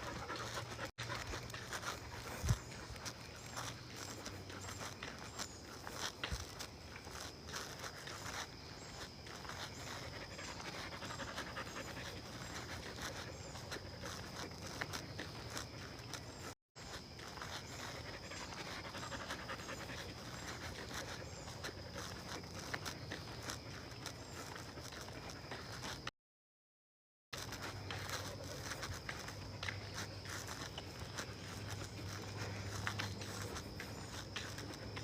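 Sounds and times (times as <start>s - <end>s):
dog panting: 0.0s - 26.1s, 27.4s - 35.0s.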